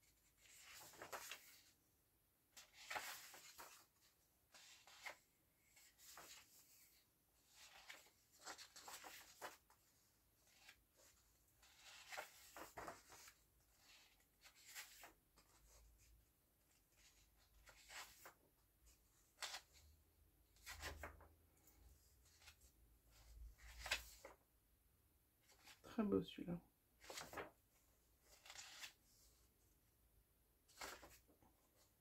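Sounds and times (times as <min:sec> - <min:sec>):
paper pages rustling: 0:00.0 - 0:01.8, 0:02.5 - 0:16.0, 0:16.6 - 0:19.8, 0:20.5 - 0:24.4, 0:25.4 - 0:25.8, 0:27.0 - 0:29.6, 0:30.6 - 0:32.0.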